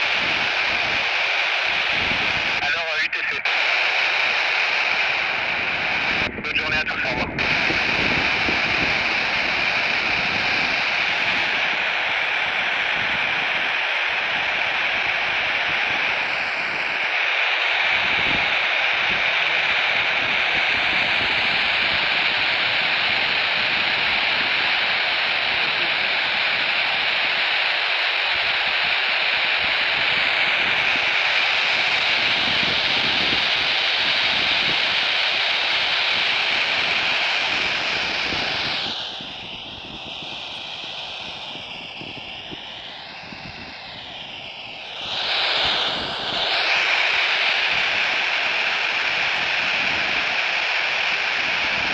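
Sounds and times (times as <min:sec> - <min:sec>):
radio static hiss: 0:00.0 - 0:51.9.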